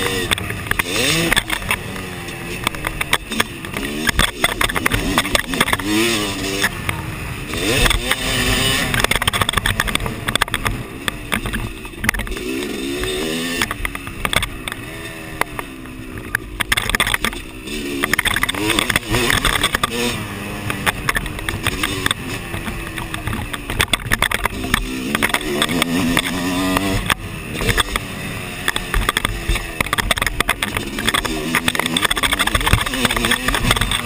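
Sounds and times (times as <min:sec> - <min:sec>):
motocross bike engine revving: 0:00.0 - 0:34.0
sharp knocks and clatter: 0:00.0 - 0:34.0.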